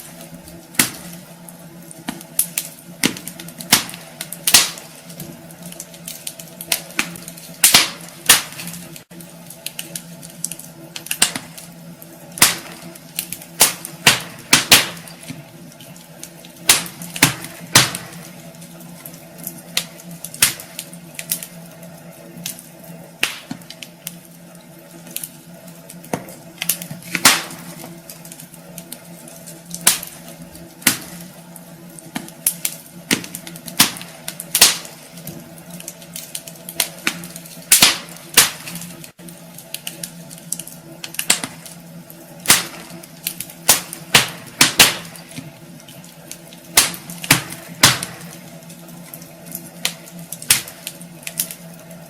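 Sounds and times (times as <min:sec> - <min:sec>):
fire low hiss: 0:00.0 - 0:52.0
logs crackling and popping: 0:00.0 - 0:52.0.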